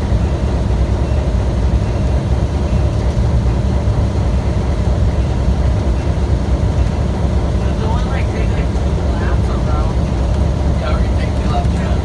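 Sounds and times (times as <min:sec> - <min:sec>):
ride train rumbling on track: 0:00.0 - 0:12.0.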